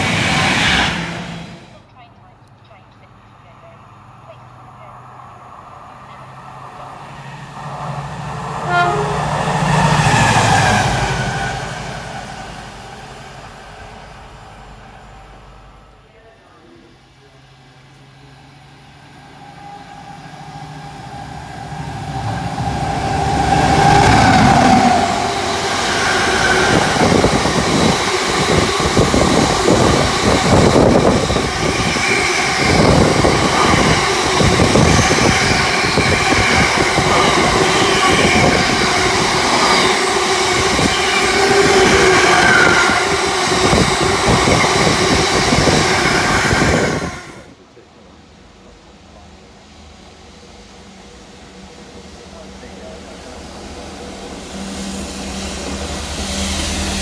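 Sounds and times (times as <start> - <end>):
freight train rumbling past: 0.0 - 2.0, 2.7 - 57.0.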